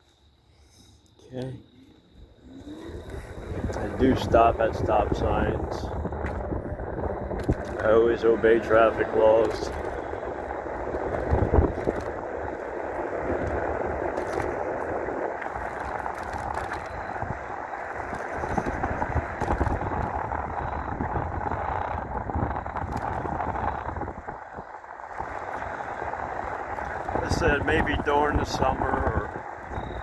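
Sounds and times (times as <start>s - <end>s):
bike tyres on pavement: 2.0s - 30.0s
wind on microphone: 2.1s - 30.0s.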